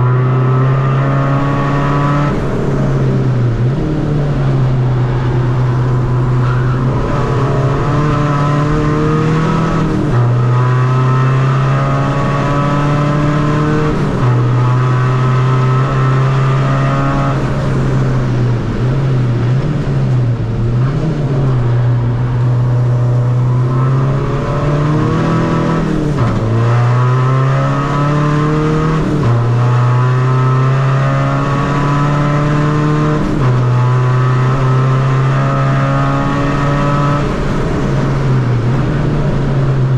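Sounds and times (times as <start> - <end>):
diesel car engine accelerating: 0.0 - 39.9.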